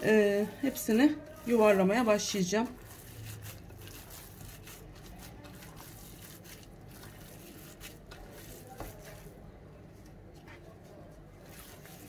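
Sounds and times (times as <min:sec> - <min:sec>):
wet squelches of kneading meat: 0:00.2 - 0:12.0.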